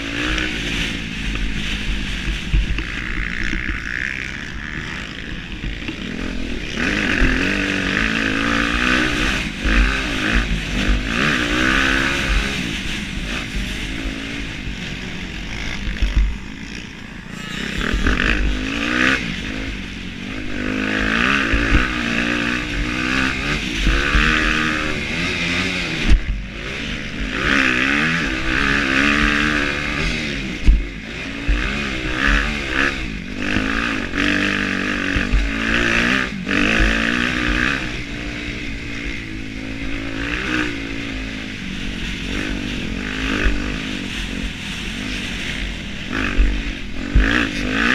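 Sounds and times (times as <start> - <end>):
motocross bike engine revving: 0.0 - 47.9.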